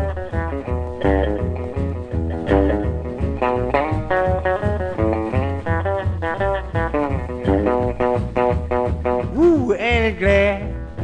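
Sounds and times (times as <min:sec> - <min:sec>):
bass beat: 0:00.0 - 0:11.0
instrumental guitar music: 0:00.0 - 0:11.0.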